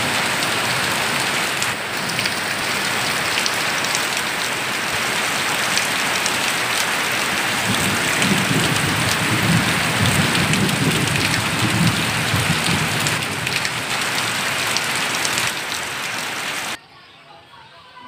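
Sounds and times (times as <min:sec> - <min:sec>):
heavy rain falling: 0:00.0 - 0:16.8.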